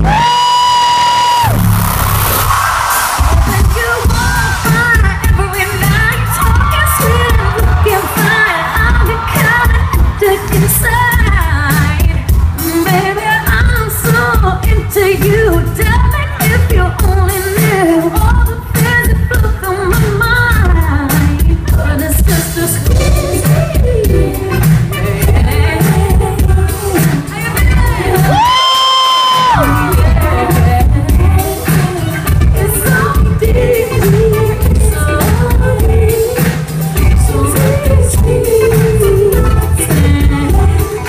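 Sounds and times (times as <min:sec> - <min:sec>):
band with heavy pulsing bass: 0:00.0 - 0:28.6, 0:29.4 - 0:41.0
person singing: 0:03.2 - 0:41.0.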